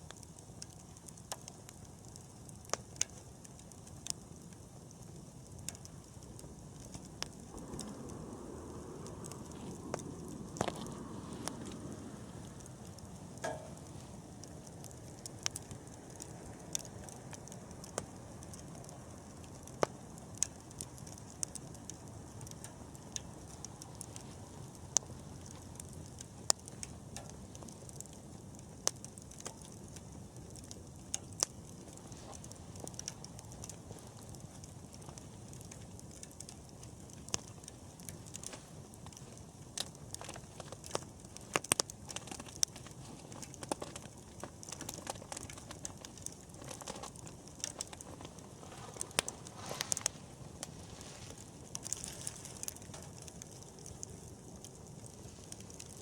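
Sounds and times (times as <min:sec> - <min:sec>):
burning wood crackling and popping: 0:00.0 - 0:56.0
campfire flames rushing: 0:00.0 - 0:56.0.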